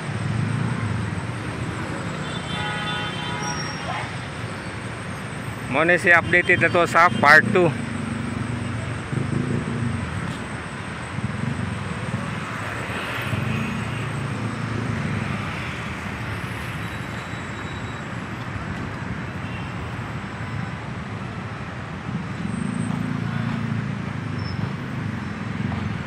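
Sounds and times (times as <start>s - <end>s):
cars driving past: 0.0s - 26.0s
traffic hum: 0.0s - 26.0s.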